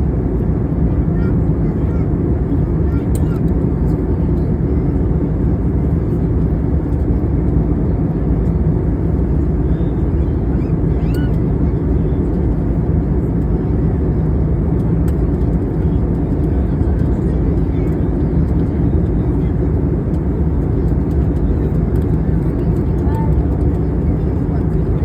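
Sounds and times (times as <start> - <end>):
airliner cabin roar: 0.0 - 25.0.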